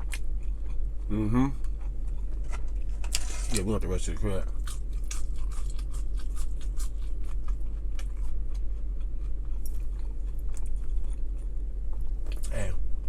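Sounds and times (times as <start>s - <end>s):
person chewing food: 0.0s - 3.5s, 4.5s - 13.0s
steady low hum: 0.0s - 13.0s.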